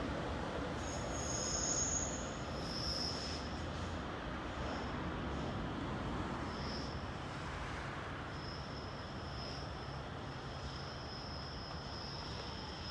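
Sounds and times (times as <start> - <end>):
train rumble and wheel noise: 0.0 - 12.9.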